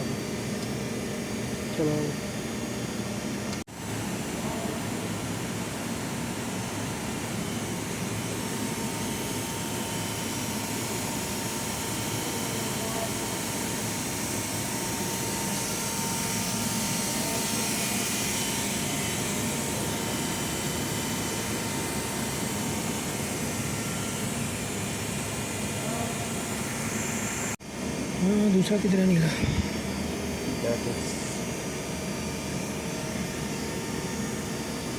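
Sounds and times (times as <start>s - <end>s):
faint constant whine: 0.0s - 34.9s.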